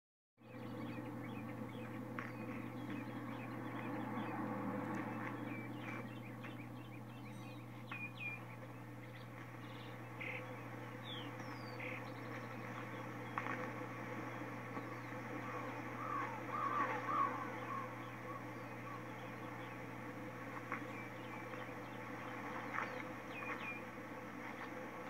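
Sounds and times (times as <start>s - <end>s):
birds chirping: 0.4s - 25.0s
steady low hum: 0.4s - 25.0s.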